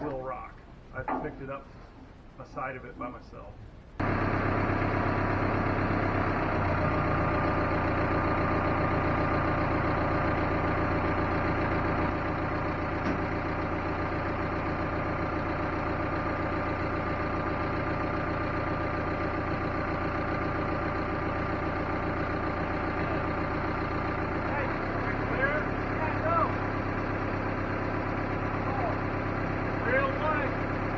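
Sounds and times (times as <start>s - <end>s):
vehicle engine idling: 3.8s - 30.9s.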